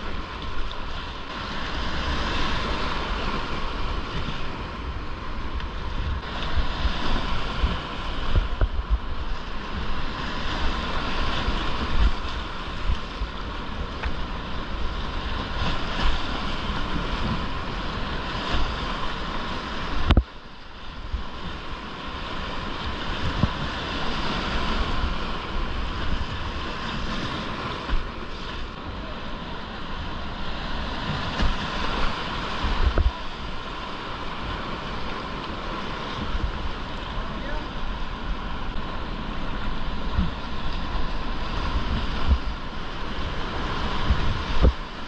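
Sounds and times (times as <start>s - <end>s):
wind buffeting microphone: 0.0s - 20.3s, 20.9s - 45.0s
whitewater rushing and splashing: 0.0s - 45.0s.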